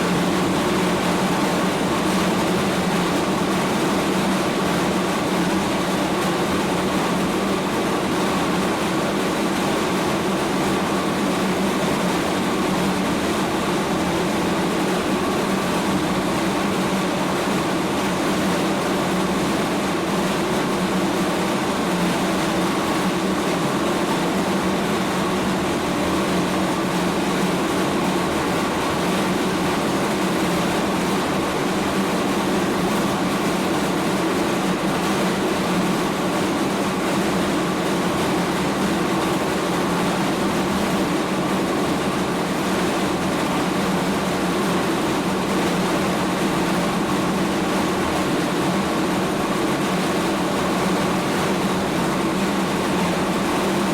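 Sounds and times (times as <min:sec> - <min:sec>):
mill machinery hum: 0:00.0 - 0:53.9.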